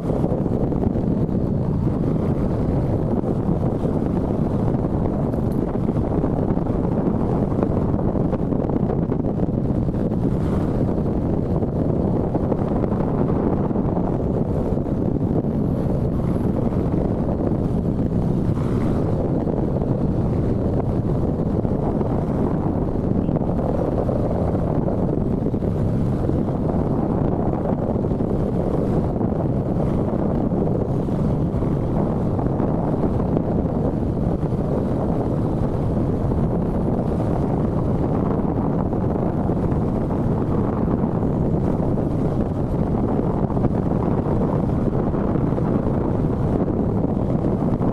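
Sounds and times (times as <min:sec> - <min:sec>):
motorcycle running noise: 0:00.0 - 0:47.9
wind rushing on microphone: 0:00.0 - 0:47.9.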